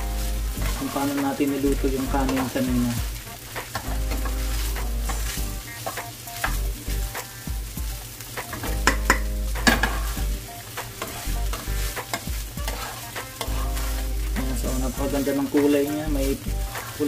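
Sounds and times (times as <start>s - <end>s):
spatula scraping a pan: 0.0s - 7.5s, 8.4s - 17.0s
rice sizzling in a frying pan: 0.0s - 17.0s.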